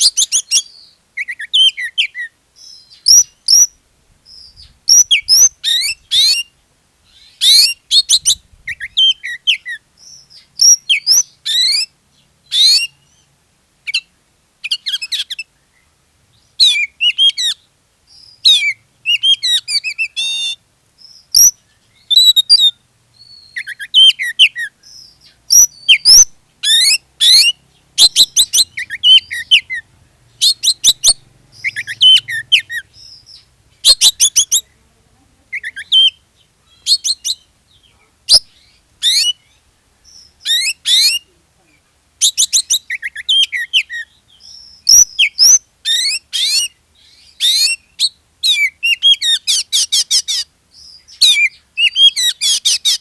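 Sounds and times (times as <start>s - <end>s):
songbird whistles and trills: 0.0s - 34.8s, 35.5s - 41.4s, 42.2s - 53.0s.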